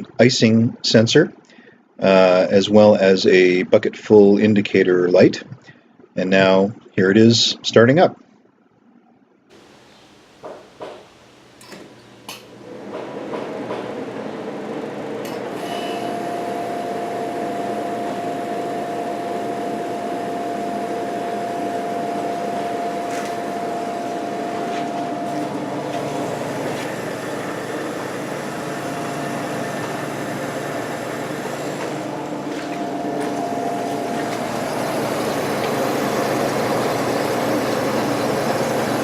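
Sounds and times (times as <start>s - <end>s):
dehumidifier compressor and fan hum: 0.0s - 8.0s, 9.5s - 39.0s.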